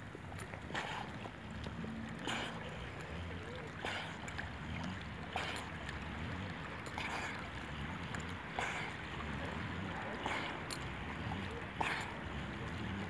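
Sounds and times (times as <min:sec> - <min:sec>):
steady low rumble: 0:00.0 - 0:13.0
water sloshing around swimming dog: 0:00.0 - 0:13.0.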